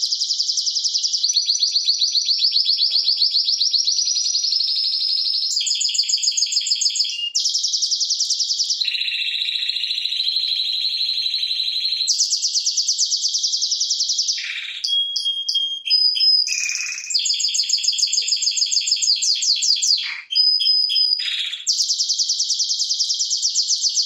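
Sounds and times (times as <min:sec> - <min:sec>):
canary singing trilled phrases: 0:00.0 - 0:24.0.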